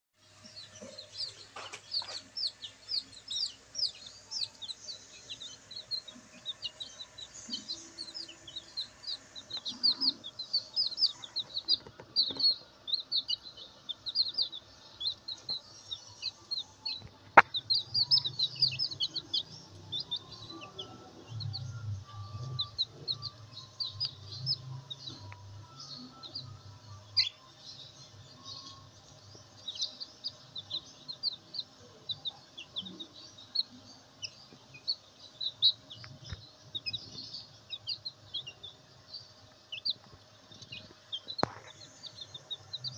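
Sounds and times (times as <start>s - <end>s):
chicks peeping: 0.2s - 42.9s.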